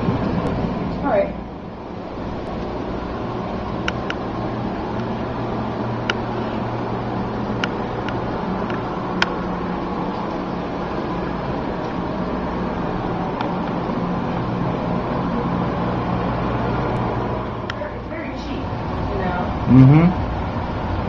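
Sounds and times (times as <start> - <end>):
room hum and hiss: 0.0 - 21.0.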